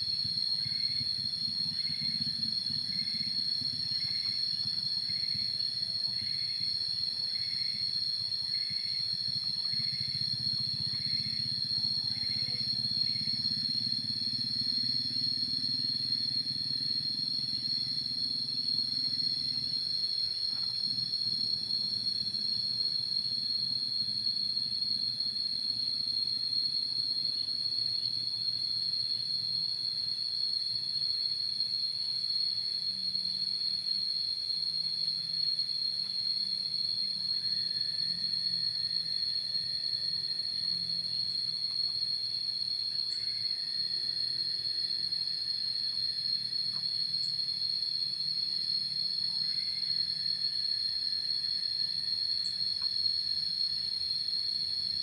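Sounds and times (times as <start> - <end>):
lower insect tone: 0.0 - 55.0
shrill insect chorus: 0.0 - 55.0.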